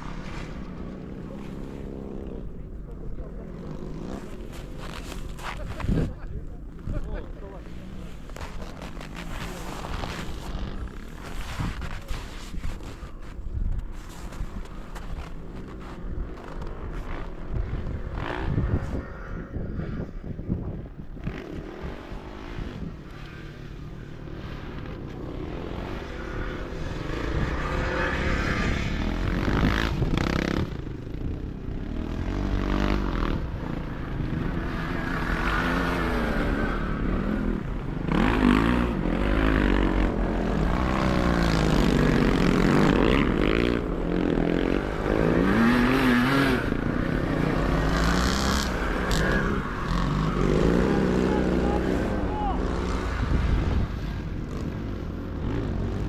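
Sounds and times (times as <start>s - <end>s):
racing motorcycle engines revving: 0.0s - 56.0s.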